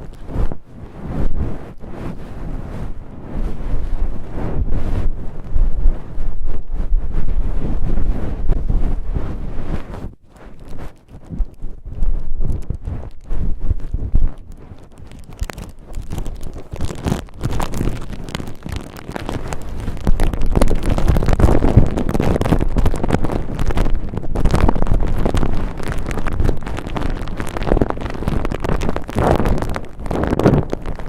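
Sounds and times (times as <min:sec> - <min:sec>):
cotton rubbing on microphone: 0:00.0 - 0:31.0.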